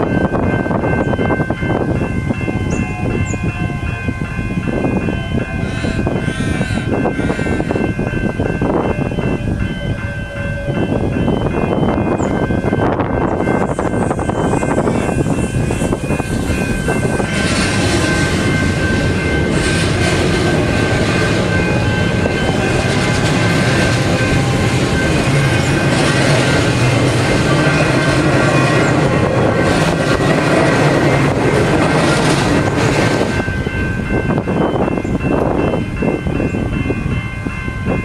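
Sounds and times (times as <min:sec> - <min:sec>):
electric train passing: 0:00.0 - 0:38.0
level crossing bells ringing: 0:00.0 - 0:38.0.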